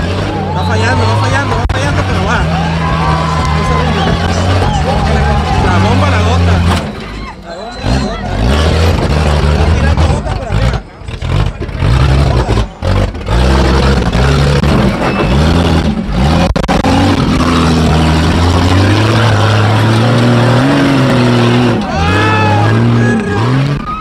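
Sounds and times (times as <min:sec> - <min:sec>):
engine revving: 0:00.0 - 0:07.0, 0:07.8 - 0:24.0.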